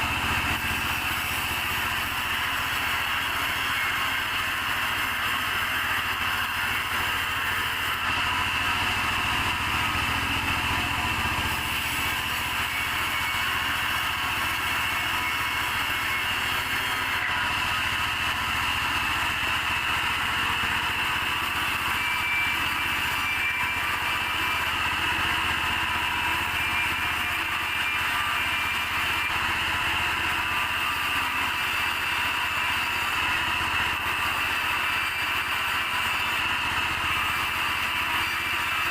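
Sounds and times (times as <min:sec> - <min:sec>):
high-pitched saw noise: 0:00.0 - 0:38.9.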